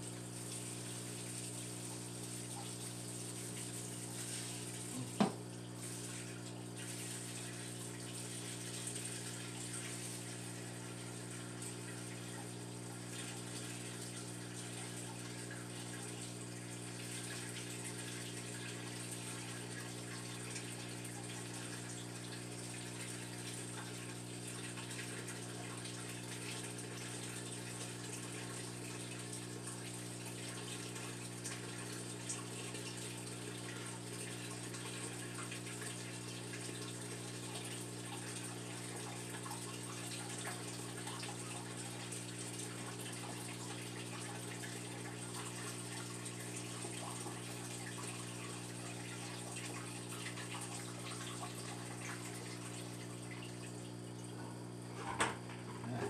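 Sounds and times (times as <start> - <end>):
low electrical hum: 0.0 - 56.0
water pouring and splashing: 0.3 - 54.4.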